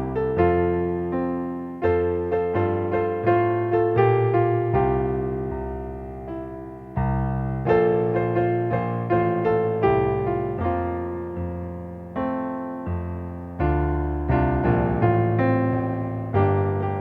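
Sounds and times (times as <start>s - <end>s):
solo piano chords and notes: 0.0s - 17.0s.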